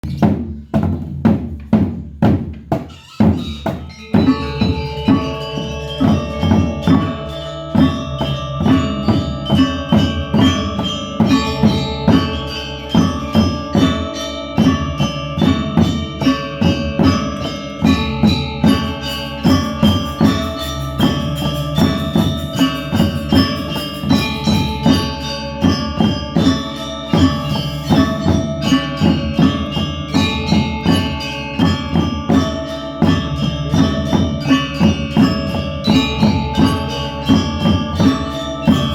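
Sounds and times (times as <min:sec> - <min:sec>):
drum strokes: 0:00.0 - 0:38.9
metallophones struck with mallets: 0:00.0 - 0:38.9.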